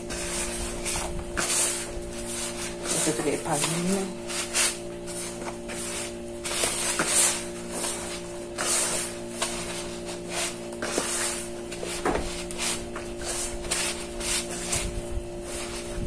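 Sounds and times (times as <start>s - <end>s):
dough kneaded in plastic bowl: 0.0s - 16.0s.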